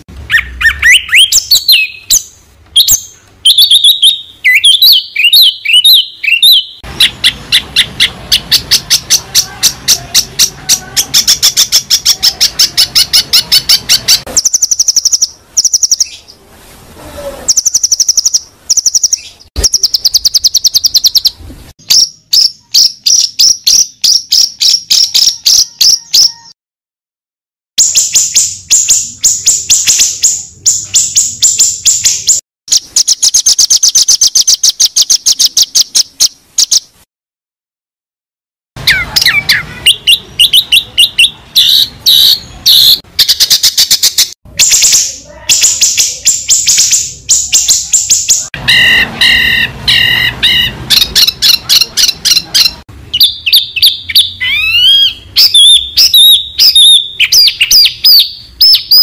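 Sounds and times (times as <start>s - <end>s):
bird whistled phrases: 0.3s - 16.4s, 17.2s - 26.6s, 27.8s - 36.9s, 38.8s - 59.0s
buzzy bird chirps: 0.3s - 16.4s, 17.2s - 26.6s, 27.8s - 37.0s, 38.8s - 59.0s.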